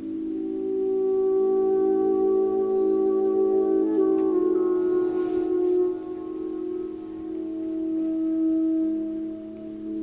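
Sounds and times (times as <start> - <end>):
slow meditative music: 0.0 - 10.0.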